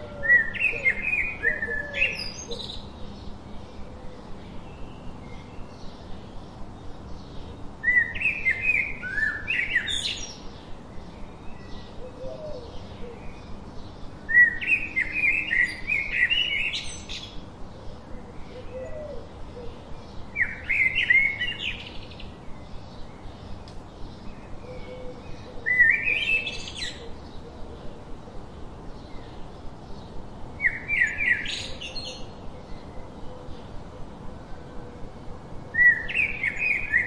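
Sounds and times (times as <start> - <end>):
songbird singing: 0.0 - 37.0.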